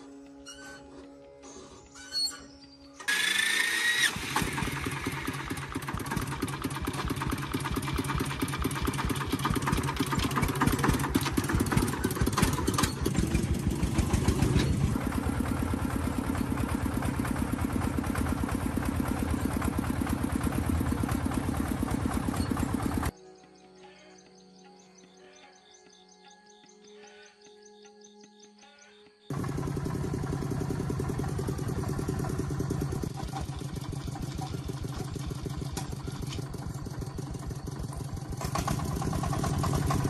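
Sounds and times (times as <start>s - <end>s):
engine running: 0.0s - 23.1s, 29.3s - 40.0s
engine starter whine: 0.0s - 23.1s, 29.2s - 40.0s.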